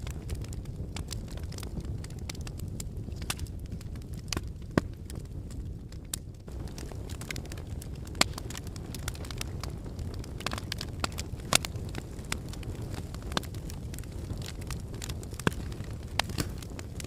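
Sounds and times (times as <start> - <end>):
flames rumbling: 0.0 - 17.0
logs crackling and popping: 0.0 - 17.0.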